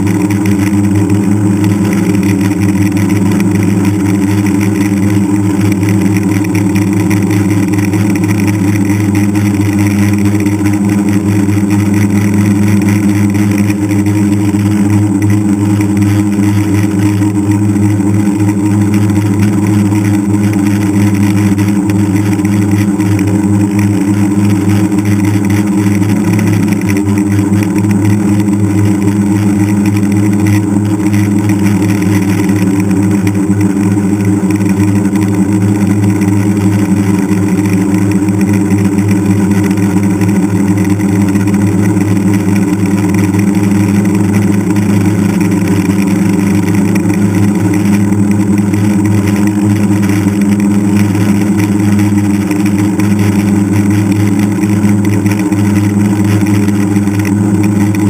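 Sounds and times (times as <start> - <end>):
drone motors humming: 0.0 - 58.0.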